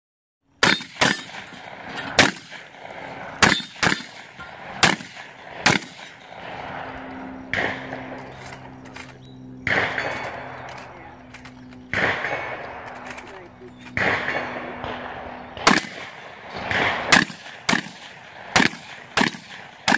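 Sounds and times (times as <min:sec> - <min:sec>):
shotgun shots: 0:00.6 - 0:19.9.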